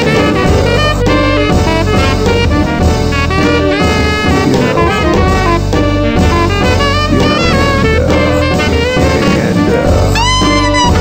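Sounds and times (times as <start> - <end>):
bass: 0.0 - 11.0
drums: 0.0 - 11.0
saxophone playing jazz: 0.0 - 11.0.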